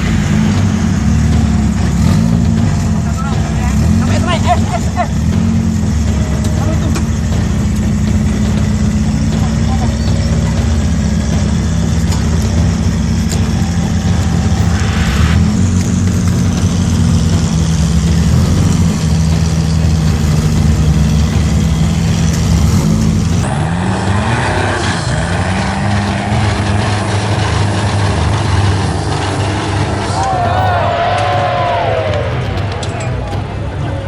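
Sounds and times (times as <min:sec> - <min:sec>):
off-road engines revving: 0:00.0 - 0:34.0.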